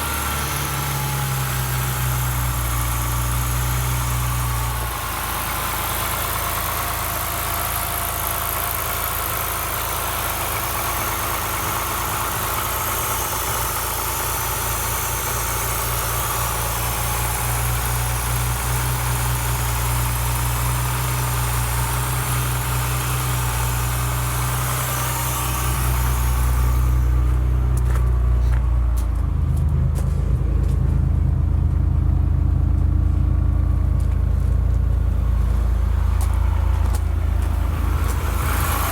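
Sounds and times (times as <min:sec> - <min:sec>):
race car engine running steadily: 0:00.0 - 0:38.9.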